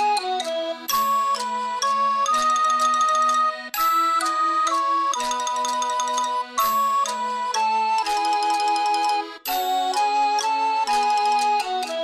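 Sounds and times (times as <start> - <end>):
chiming bell-like melody: 0.5 - 12.0.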